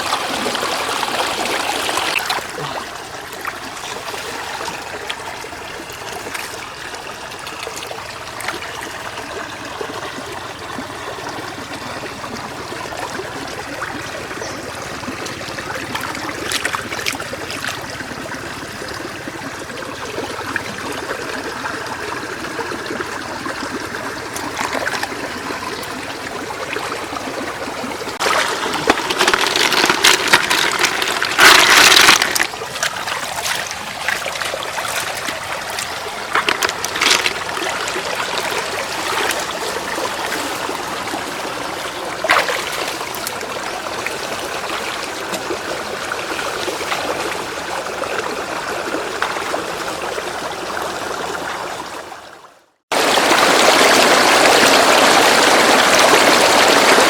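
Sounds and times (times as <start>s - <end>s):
water splashing and sloshing: 0.0s - 52.2s
shallow floodwater running: 0.0s - 57.0s.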